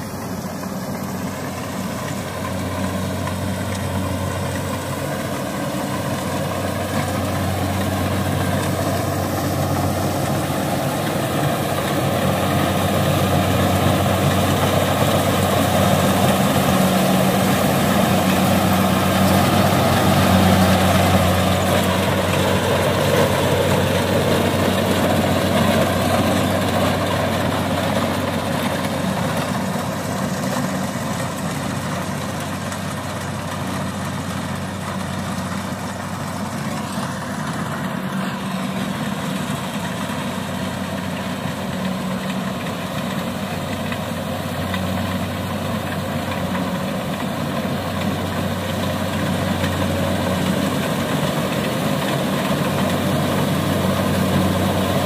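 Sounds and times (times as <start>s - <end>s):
combine harvester diesel engine: 0.0s - 55.0s.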